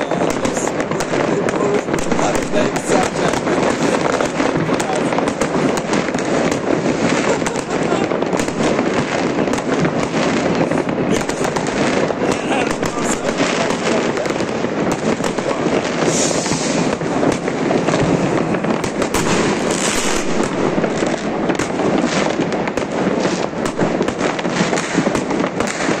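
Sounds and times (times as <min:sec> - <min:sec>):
firework hisses: 0:00.0 - 0:22.4
fireworks crackling and banging: 0:00.0 - 0:26.0.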